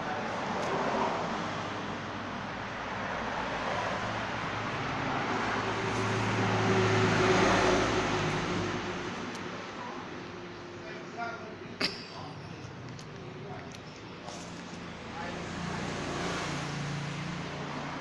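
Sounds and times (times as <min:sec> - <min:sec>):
vehicle passing by: 0:00.0 - 0:10.2, 0:12.6 - 0:18.0.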